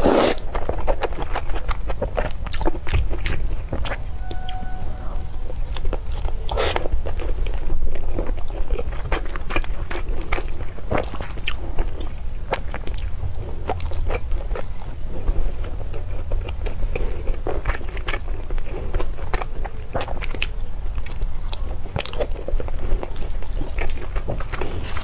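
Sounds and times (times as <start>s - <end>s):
crunchy biting and chewing: 0.0s - 4.0s, 5.6s - 25.0s
steady low hum: 0.6s - 25.0s.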